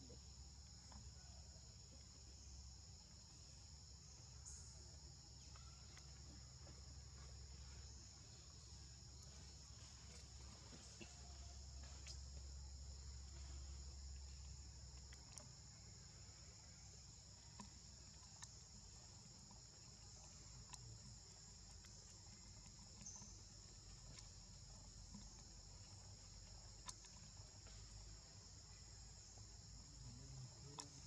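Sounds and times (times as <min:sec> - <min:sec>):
high-pitched insect chorus: 0:00.0 - 0:31.0.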